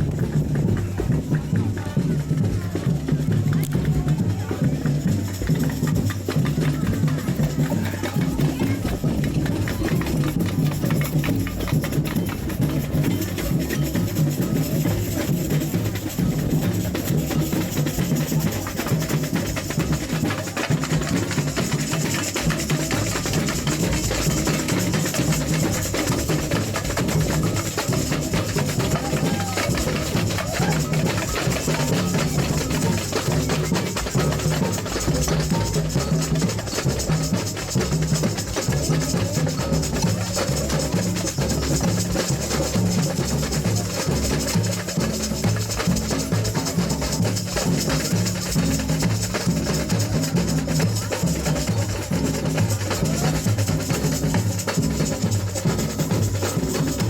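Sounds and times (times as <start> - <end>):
bass drum beat: 0.0 - 57.0
samba drums and percussion: 0.0 - 57.0.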